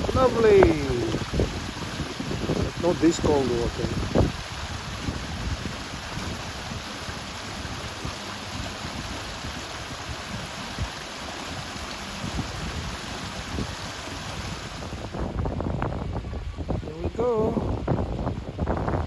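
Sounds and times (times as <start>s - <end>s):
water bubbling and rushing: 0.0s - 19.0s.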